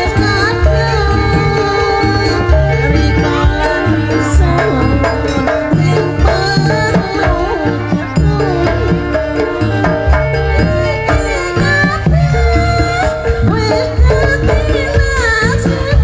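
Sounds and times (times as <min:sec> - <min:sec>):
hand drum strokes: 0:00.0 - 0:16.0
wavering melody lines: 0:00.0 - 0:16.0.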